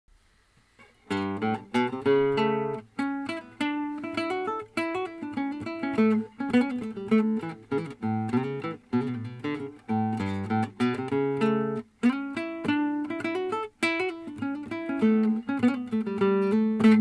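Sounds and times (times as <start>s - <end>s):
classical guitar playing: 0.8s - 17.0s.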